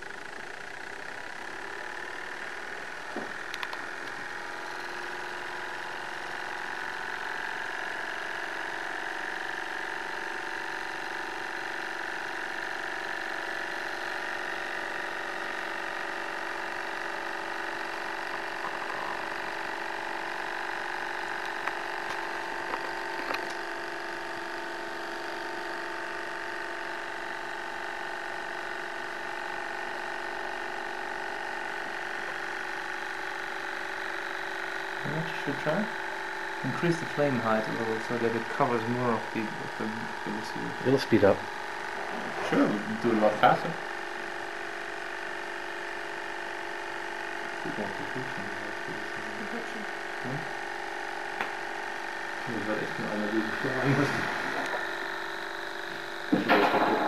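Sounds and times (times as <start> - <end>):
model engine whirring and rattling: 0.0 - 57.0.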